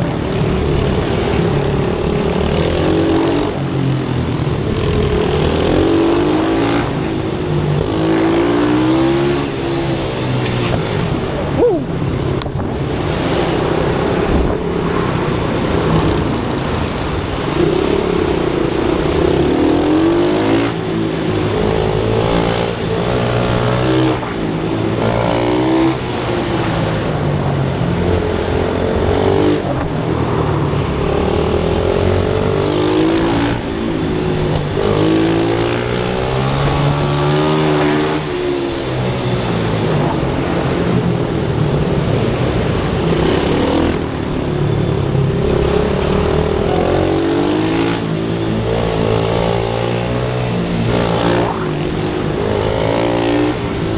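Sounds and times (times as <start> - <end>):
pit bike engines revving: 0.0 - 53.9.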